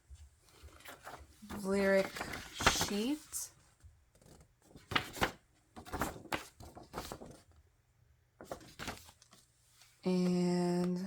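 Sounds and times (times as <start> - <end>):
paper rustling: 0.1 - 7.6, 8.3 - 10.9.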